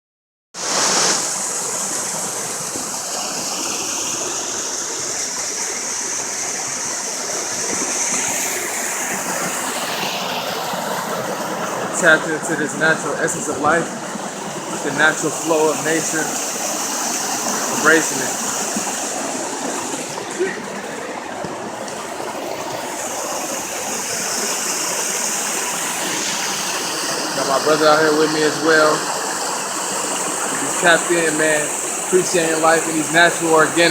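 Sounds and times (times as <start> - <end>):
running water rushing: 0.6 - 33.9.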